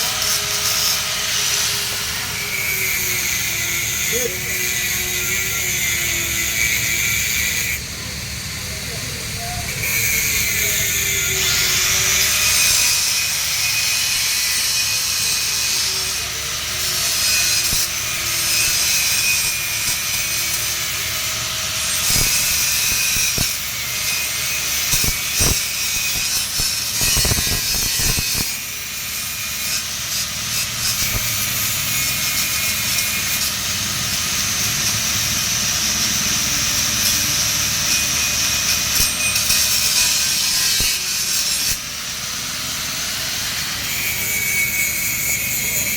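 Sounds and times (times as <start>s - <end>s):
welding arc hissing: 0.0s - 45.9s.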